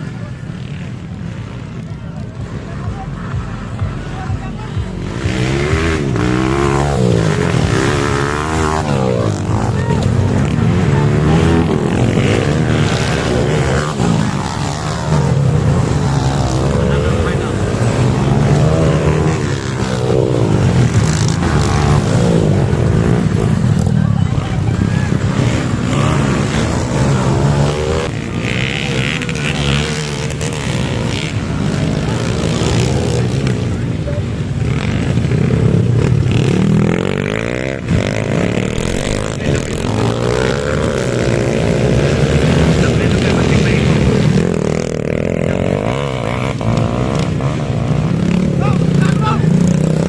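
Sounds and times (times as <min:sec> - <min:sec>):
dirt bike engines racing: 0:00.0 - 0:50.0.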